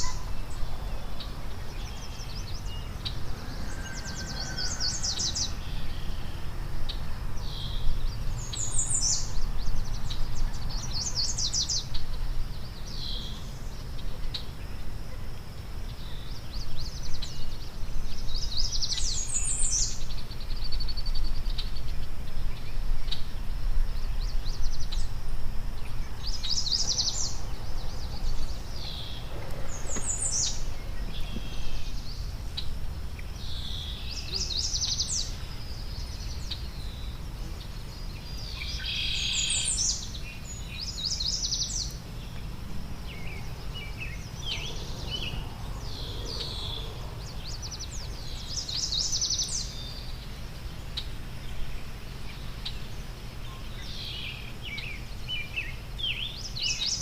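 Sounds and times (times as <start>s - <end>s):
songbirds singing and calling: 0.0s - 57.0s.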